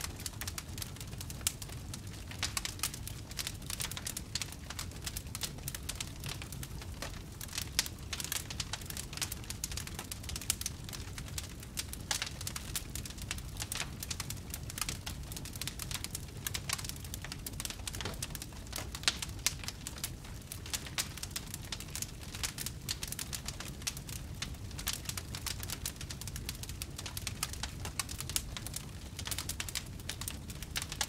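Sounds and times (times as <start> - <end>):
low fire rumble: 0.0 - 31.0
wood fire crackling and popping: 0.0 - 31.0.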